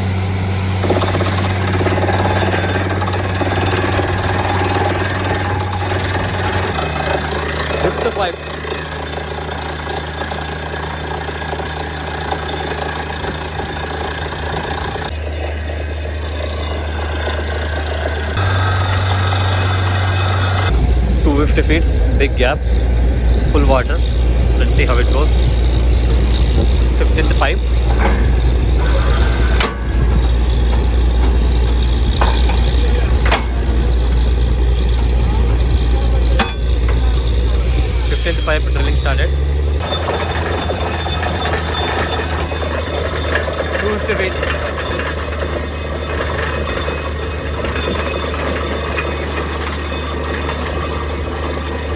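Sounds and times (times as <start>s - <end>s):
drilling rig rattling clatter: 0.0s - 51.9s
engine drone: 0.0s - 51.9s.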